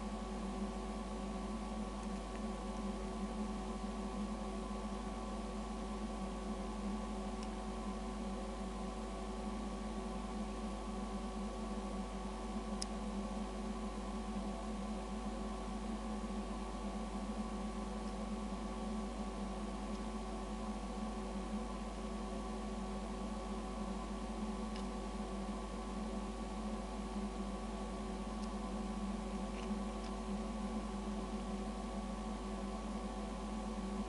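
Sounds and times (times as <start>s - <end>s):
hum with held tones: 0.0s - 34.0s.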